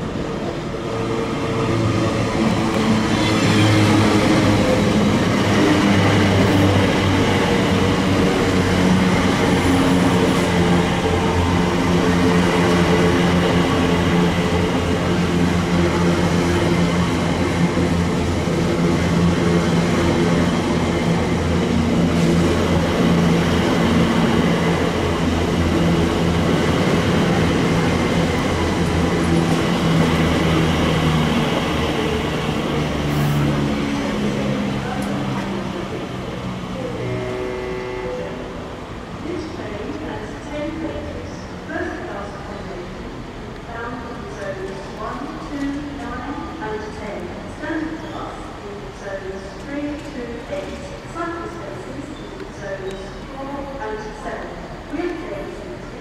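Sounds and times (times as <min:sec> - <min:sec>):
train drone with low tones: 0:00.0 - 0:56.0.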